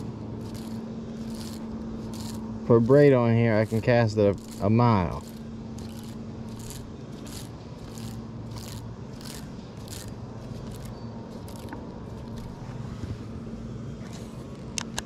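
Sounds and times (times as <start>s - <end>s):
fishing reel cranking: 0.0s - 12.6s
steady low hum: 0.0s - 15.0s.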